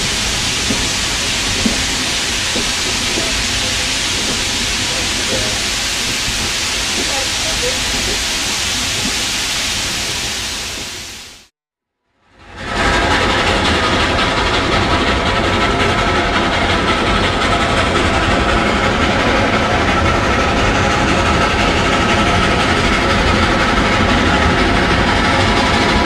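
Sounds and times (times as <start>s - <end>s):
train wheels rumbling on rails: 0.0s - 11.5s, 12.2s - 26.0s.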